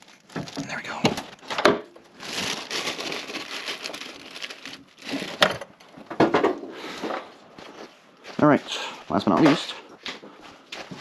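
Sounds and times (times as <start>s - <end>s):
rustling crinkling handling noise: 0.0s - 11.0s.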